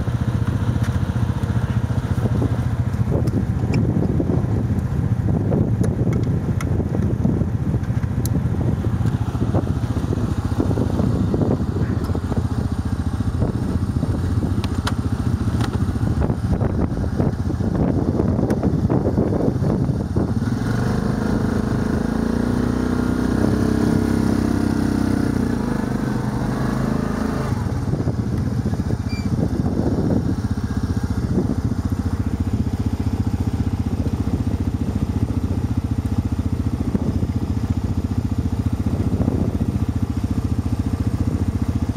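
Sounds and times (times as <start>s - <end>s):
atv engine idling: 0.0s - 41.9s.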